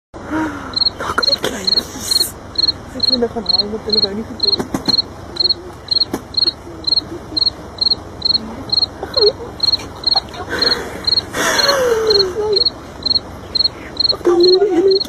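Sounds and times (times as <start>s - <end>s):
insect chirping high-pitched: 0.7s - 15.0s
rustling hiss: 0.8s - 14.0s.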